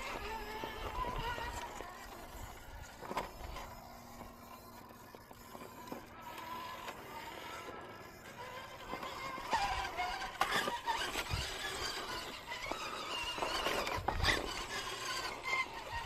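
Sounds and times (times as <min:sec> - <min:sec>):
toy car motor whining: 0:00.0 - 0:16.0.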